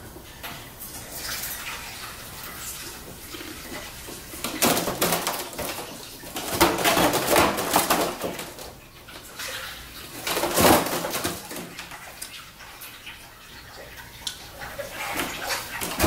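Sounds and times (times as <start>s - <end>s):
water running at a sink: 0.0s - 16.0s.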